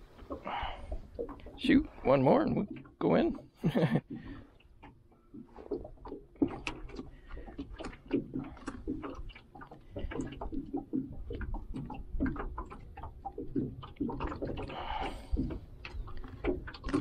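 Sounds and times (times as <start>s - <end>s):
knocks and clicks on metal boat: 0.1s - 17.0s.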